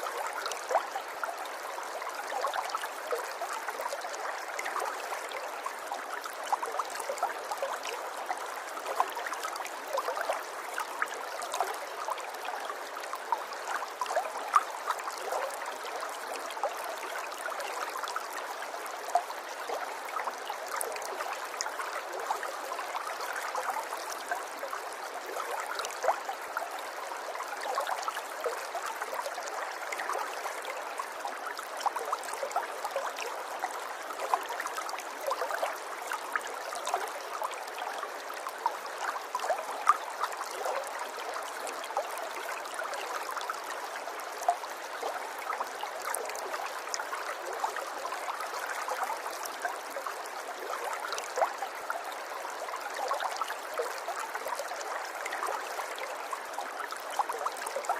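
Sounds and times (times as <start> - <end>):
river water flowing over stones: 0.0 - 57.9.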